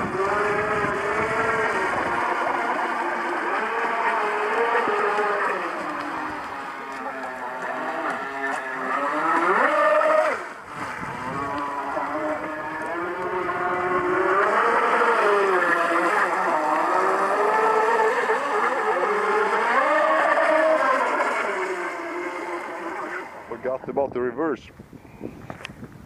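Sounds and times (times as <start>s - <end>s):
toy powerboat motor whining: 0.0s - 23.6s.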